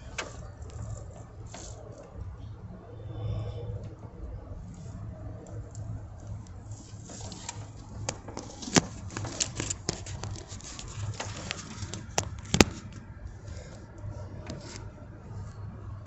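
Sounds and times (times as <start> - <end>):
engine clicks and taps: 0.0 - 2.8, 3.7 - 16.0
car engine idling: 0.0 - 16.0.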